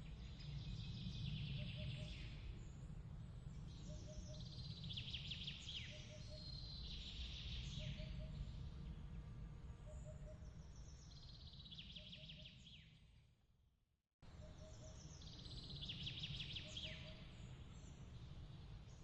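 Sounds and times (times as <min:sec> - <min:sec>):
small bird singing trills: 0:00.0 - 0:02.8, 0:03.5 - 0:08.7, 0:09.9 - 0:13.0, 0:14.4 - 0:19.0.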